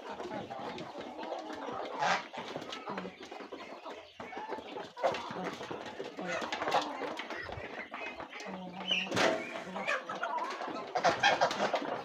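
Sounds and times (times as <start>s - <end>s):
birds pecking at metal basins: 0.0s - 12.0s
chickens clucking: 0.0s - 12.0s.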